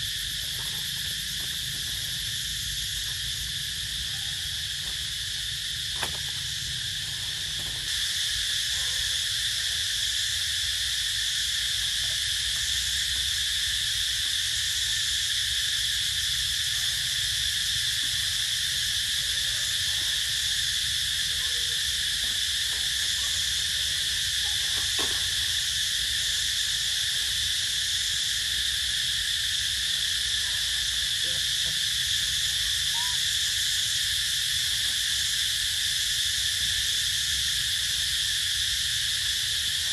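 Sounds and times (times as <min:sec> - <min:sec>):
cicadas and crickets droning: 0:00.0 - 0:39.9.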